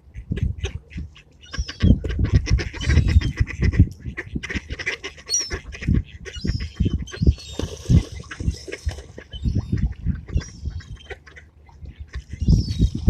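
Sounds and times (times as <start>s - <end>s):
birds squawking: 0.6s - 13.0s.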